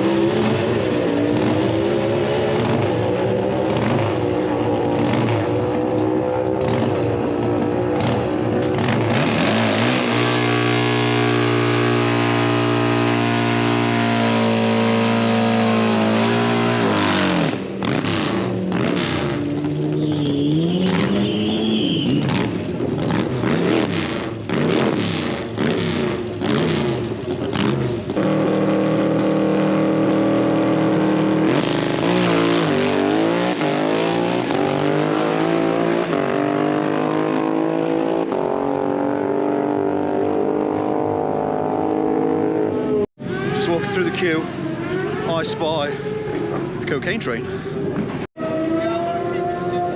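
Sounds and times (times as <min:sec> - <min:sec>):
vehicle engines revving: 0:00.0 - 0:49.9.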